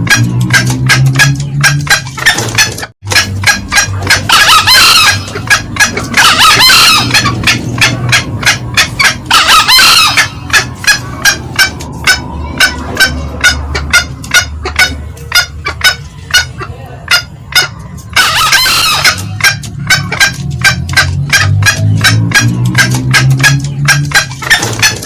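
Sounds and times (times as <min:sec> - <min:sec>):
junglefowl cackling: 0:00.0 - 0:25.0
junglefowl crowing: 0:00.0 - 0:25.0.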